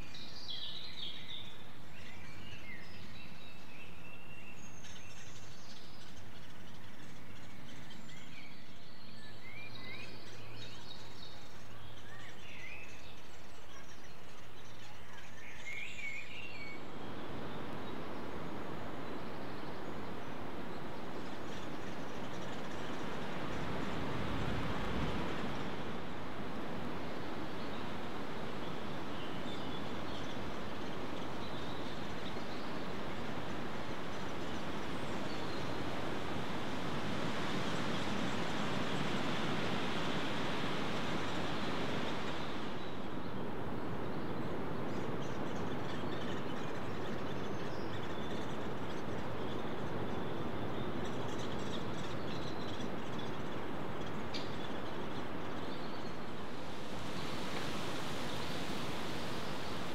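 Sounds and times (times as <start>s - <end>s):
rushing outdoor background noise: 0.0s - 59.9s.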